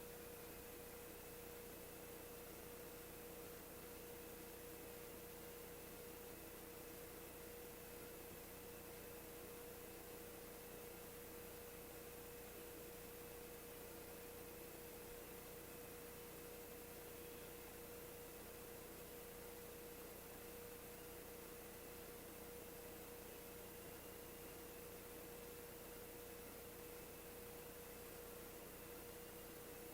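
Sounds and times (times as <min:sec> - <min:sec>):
faint hum: 0:00.0 - 0:29.9.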